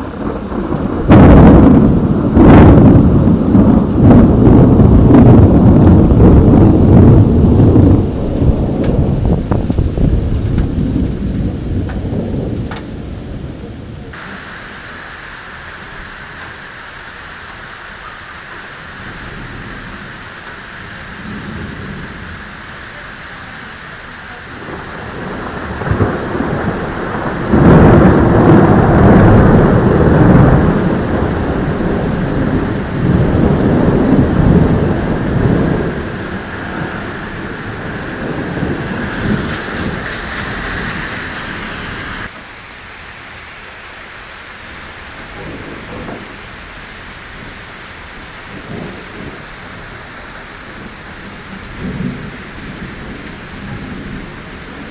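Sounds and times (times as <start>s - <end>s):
thunder rumbling: 0.0s - 42.4s, 44.9s - 54.9s
steady rain: 0.0s - 54.9s.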